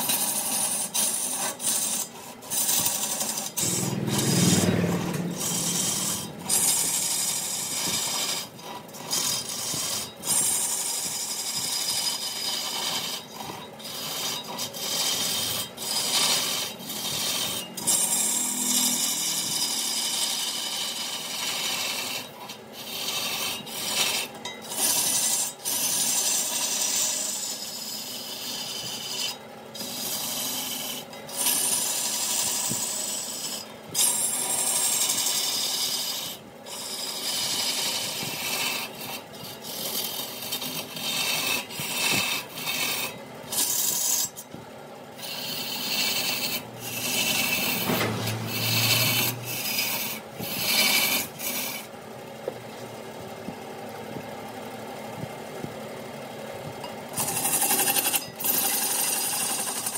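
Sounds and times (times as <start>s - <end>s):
lathe tool scraping wood: 0.0s - 52.0s, 57.1s - 59.9s.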